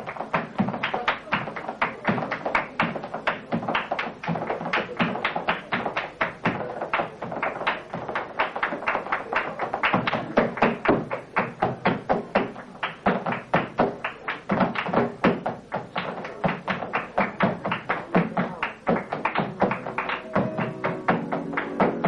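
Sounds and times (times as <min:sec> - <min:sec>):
flamenco guitar: 0:00.0 - 0:22.0
shoes striking wooden stage: 0:00.0 - 0:22.0.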